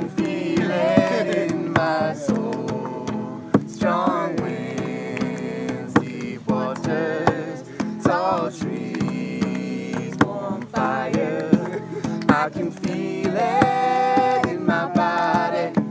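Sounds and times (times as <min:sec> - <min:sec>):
acoustic guitar: 0:00.0 - 0:15.9
person singing: 0:00.0 - 0:15.9.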